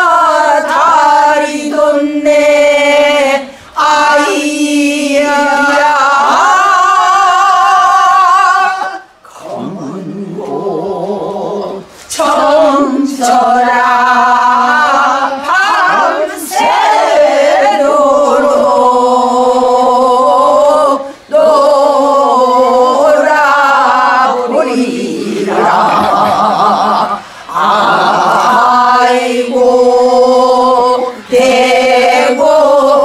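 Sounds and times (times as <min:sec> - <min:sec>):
women singing in unison: 0:00.0 - 0:33.0.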